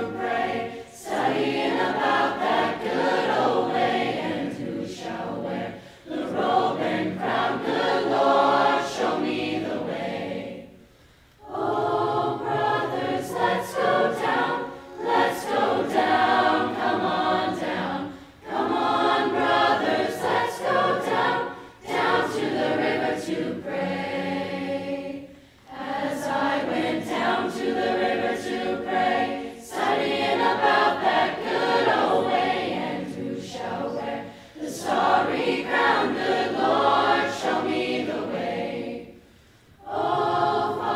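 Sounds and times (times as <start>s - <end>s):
mixed-voice choir singing: 0.0s - 40.9s.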